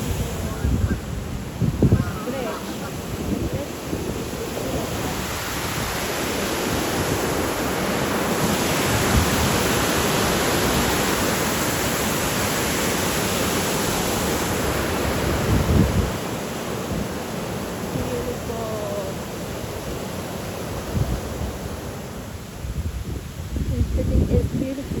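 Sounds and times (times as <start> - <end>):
waterfall rushing: 0.0 - 20.9
wind buffeting microphone: 0.0 - 25.0.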